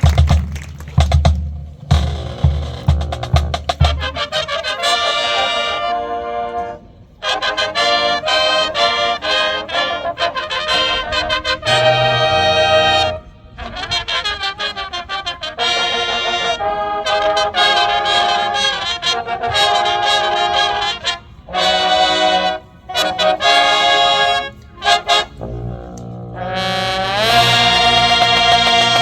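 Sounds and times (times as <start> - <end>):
marching band brass playing: 0.0 - 29.0
trumpets and trombones: 0.0 - 29.0
low brass held chord: 2.0 - 29.0.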